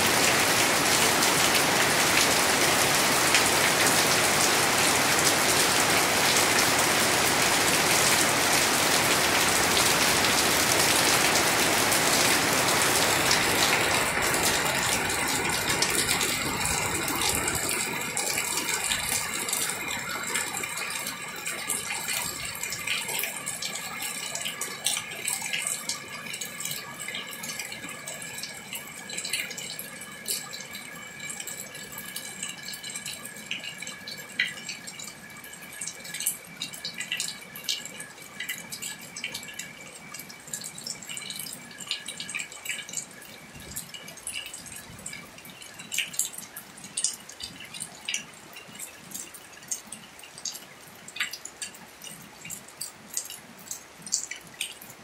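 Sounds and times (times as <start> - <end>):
heavy rain falling: 0.0 - 55.0
rain drops and drips: 0.0 - 55.0.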